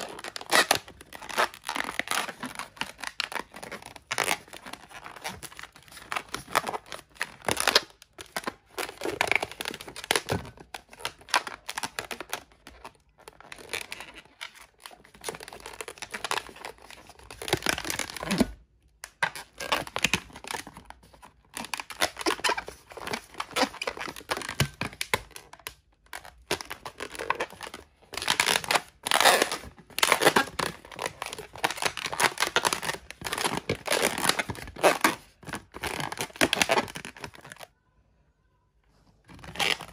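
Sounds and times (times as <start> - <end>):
balloons rubbing and twisting: 0.0 - 18.6, 19.3 - 24.7, 26.1 - 37.7, 39.2 - 39.9.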